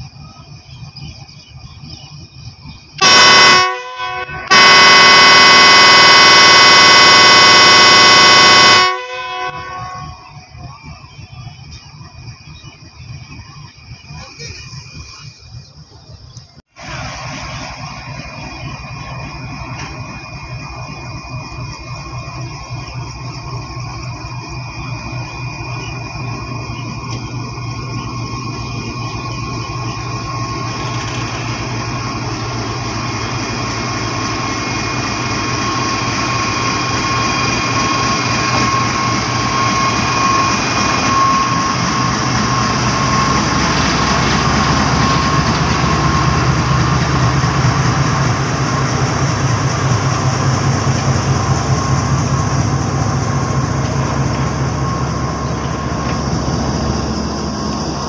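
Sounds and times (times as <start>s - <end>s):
locomotive engine whining: 0.0s - 58.0s
train wheels rumbling on rails: 0.0s - 58.0s.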